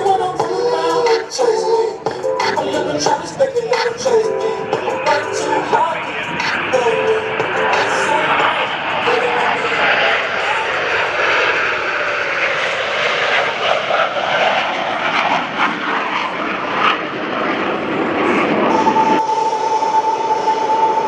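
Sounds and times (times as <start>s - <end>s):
jet engines roaring: 0.0s - 21.0s
steady high whine: 0.0s - 21.0s.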